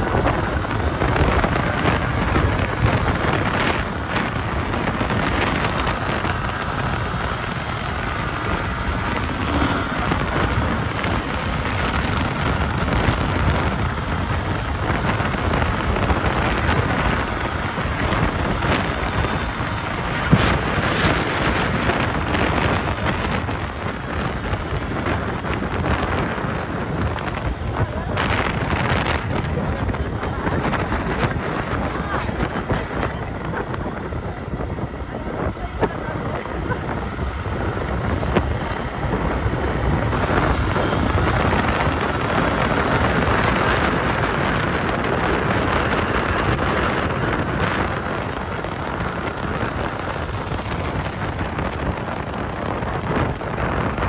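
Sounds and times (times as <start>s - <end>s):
motorbike low rumble: 0.0s - 54.0s
wind rushing over microphone: 0.0s - 54.0s.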